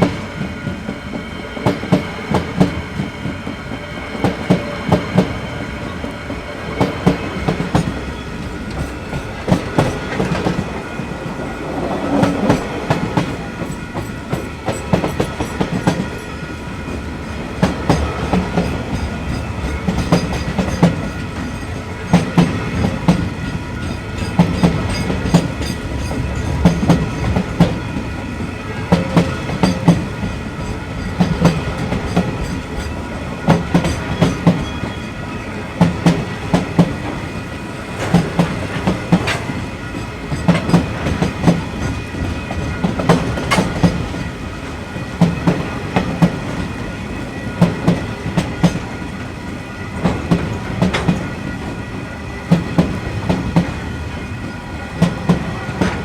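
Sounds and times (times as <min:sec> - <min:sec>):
train wheels clicking over joints: 0:00.0 - 0:35.0, 0:35.8 - 0:56.0
train rumble: 0:00.0 - 0:56.0.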